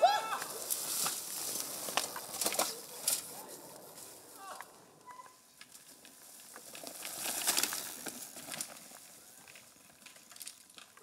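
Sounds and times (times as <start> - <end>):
bicycle tyres on leafy dirt trail: 0.0 - 11.0
leaves and twigs crackling: 0.0 - 11.0.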